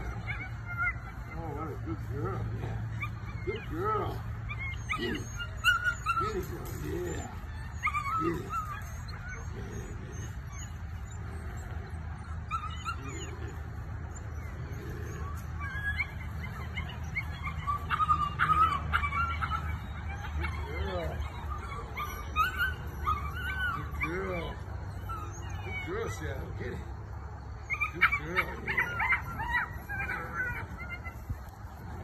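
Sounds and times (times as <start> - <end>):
puppy squealing growls: 0.0 - 32.0.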